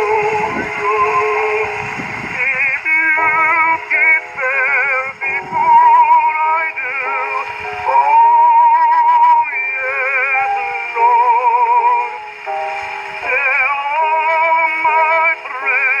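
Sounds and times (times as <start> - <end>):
baritone voice singing a spiritual: 0.0 - 12.1, 13.2 - 16.0
instrumental accompaniment: 0.0 - 16.0.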